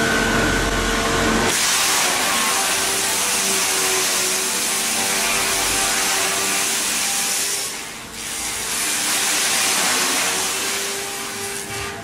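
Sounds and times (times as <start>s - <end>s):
machinery hissing and humming: 0.0s - 12.0s.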